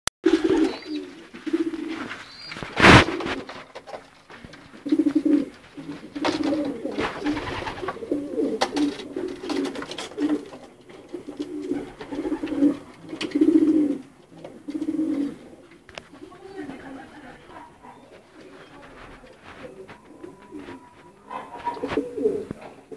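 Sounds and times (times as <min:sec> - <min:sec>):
pigeons cooing: 0:00.2 - 0:22.9.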